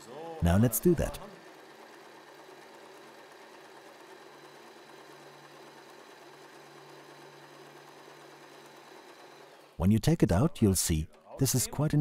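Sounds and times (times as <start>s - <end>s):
sewing machine running: 0.0s - 10.1s.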